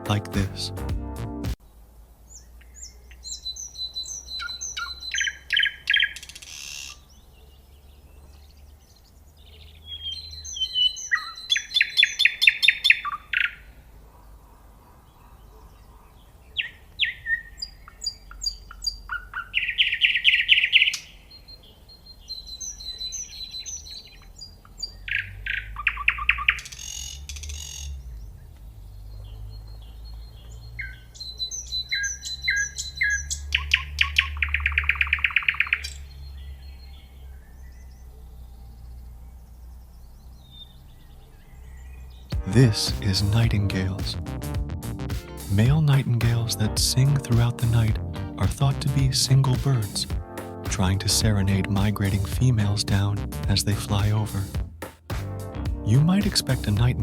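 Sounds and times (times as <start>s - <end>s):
nightingale singing: 1.7s - 13.8s, 15.2s - 44.4s, 45.3s - 54.5s.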